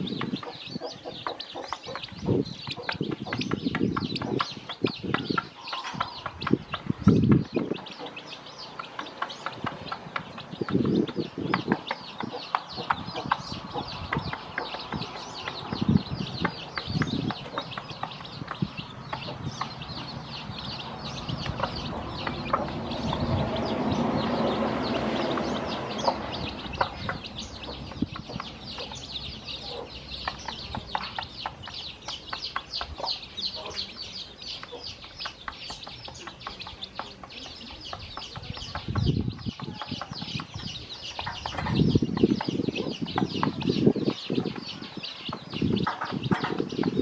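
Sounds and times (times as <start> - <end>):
chicks peeping: 0.0 - 47.0
hen clucking: 0.0 - 47.0.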